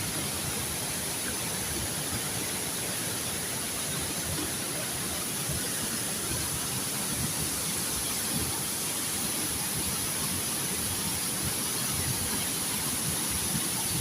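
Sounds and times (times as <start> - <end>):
waterfall rushing water: 0.0 - 14.0.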